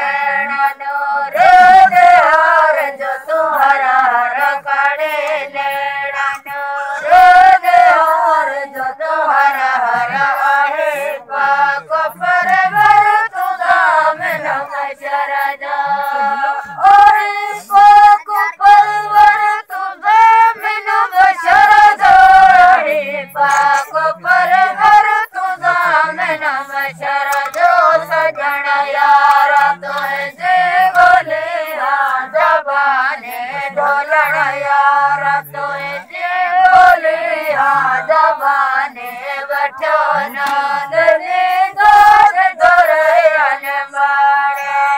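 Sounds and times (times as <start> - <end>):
chorus singing ornamented melody: 0.0 - 44.9.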